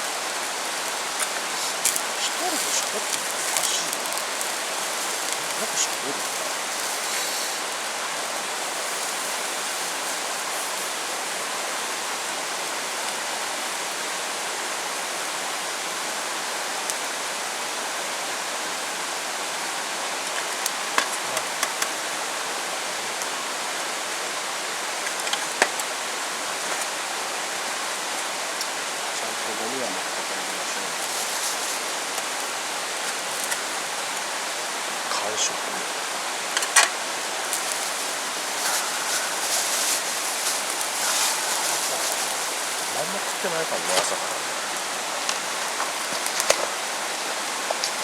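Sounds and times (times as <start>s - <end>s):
heavy rain hissing: 0.0s - 48.0s.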